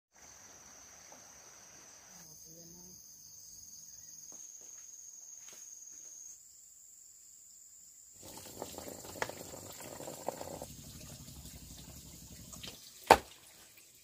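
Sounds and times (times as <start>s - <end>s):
insects droning: 0.1s - 14.0s.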